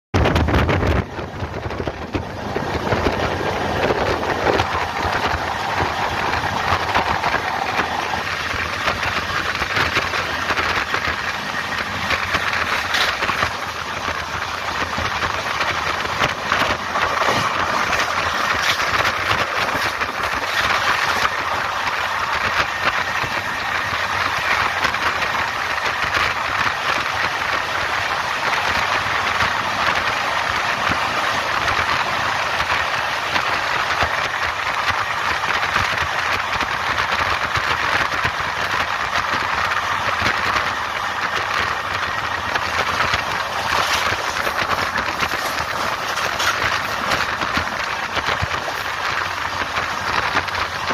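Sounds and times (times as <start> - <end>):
rushing air: 0.2 - 33.9, 39.7 - 50.9
train wheels on rails: 0.2 - 50.9.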